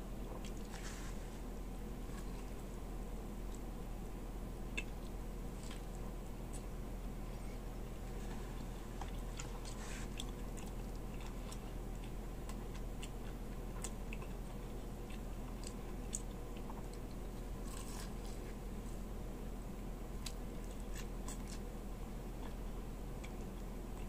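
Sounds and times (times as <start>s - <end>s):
low hum: 0.0s - 24.0s
man chewing meat: 0.1s - 18.8s, 19.9s - 24.0s.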